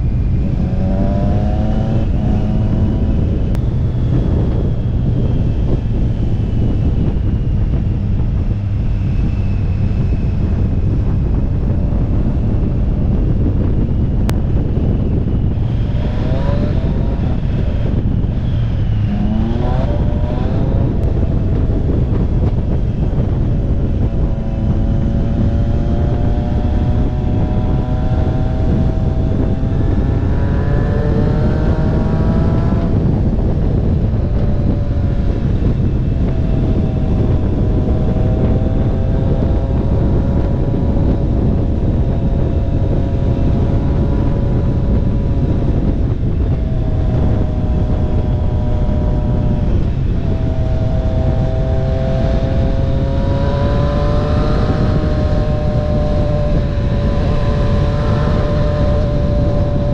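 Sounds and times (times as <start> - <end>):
motorcycle engine at road speed: 0.0 - 59.9
wind noise on microphone: 0.0 - 59.9.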